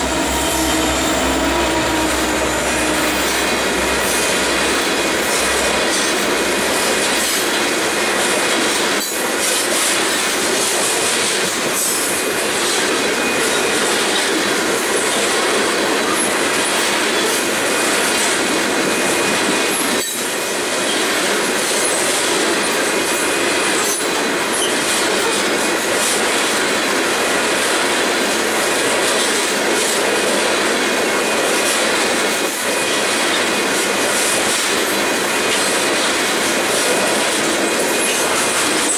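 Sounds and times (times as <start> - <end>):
steel wheels rolling on rail: 0.0 - 38.9.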